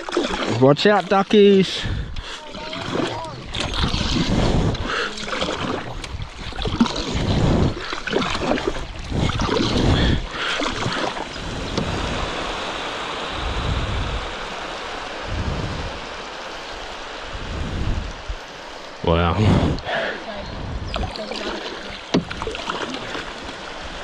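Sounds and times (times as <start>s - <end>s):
water noise: 0.0s - 24.0s
wind buffeting microphone: 1.6s - 24.0s.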